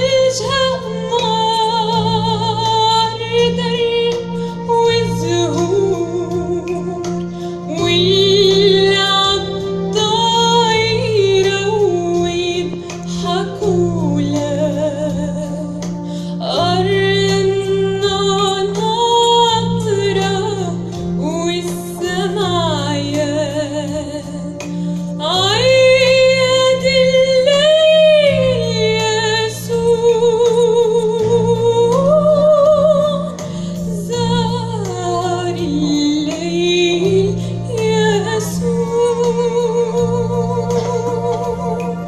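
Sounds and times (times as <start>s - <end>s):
woman singing a hymn: 0.0s - 42.0s.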